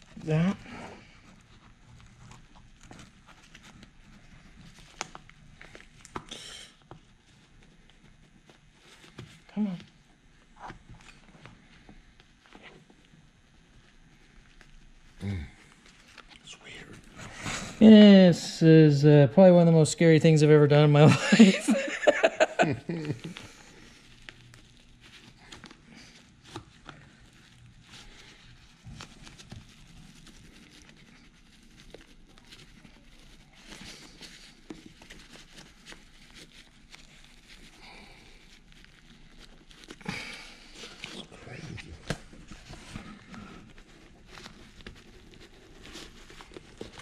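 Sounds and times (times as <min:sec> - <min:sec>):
fabric and plastic rustling: 0:00.0 - 0:18.6, 0:21.2 - 0:47.0.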